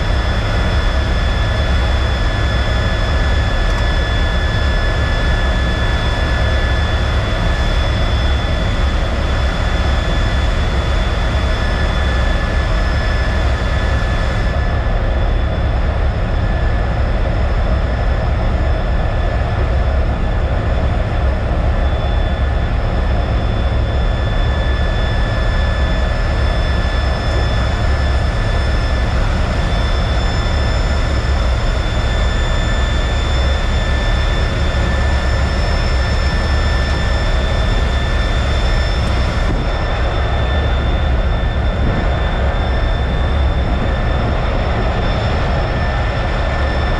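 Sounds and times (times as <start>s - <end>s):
jet engine running: 0.0s - 46.9s.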